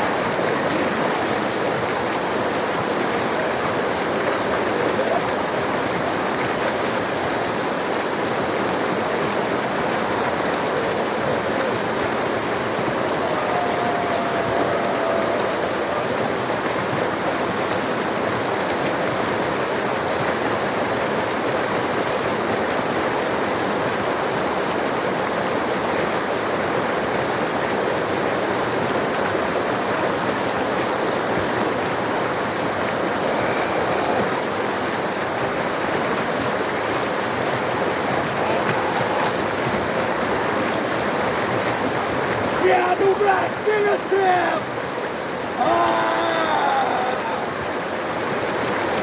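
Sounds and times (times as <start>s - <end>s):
rushing water roar: 0.0s - 49.0s.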